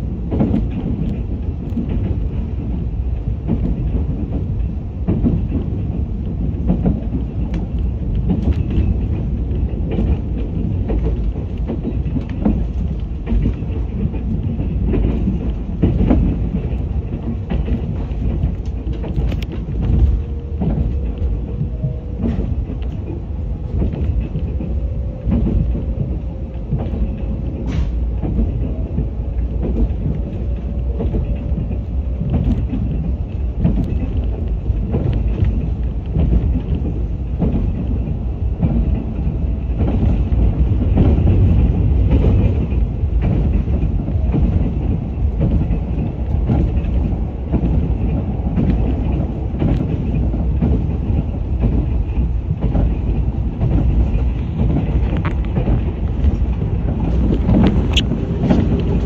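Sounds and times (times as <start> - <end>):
train wheels rumbling on rail: 0.0 - 59.0
wheels clicking over rail joints: 0.0 - 59.0.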